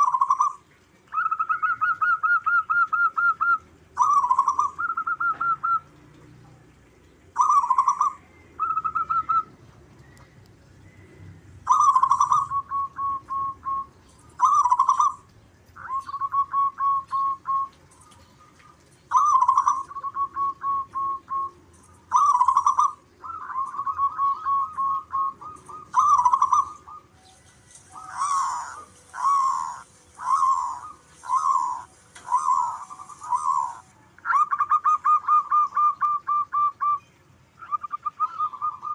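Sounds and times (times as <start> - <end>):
dove cooing: 0.0 - 6.3, 7.1 - 10.2, 10.8 - 37.0, 37.6 - 38.9.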